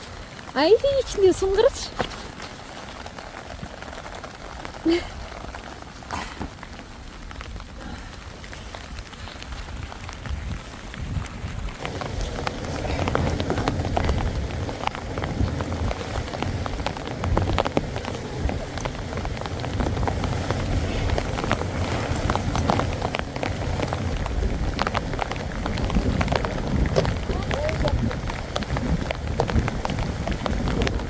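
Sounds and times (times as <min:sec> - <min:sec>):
heavy rain on tent fabric: 0:00.0 - 0:31.0.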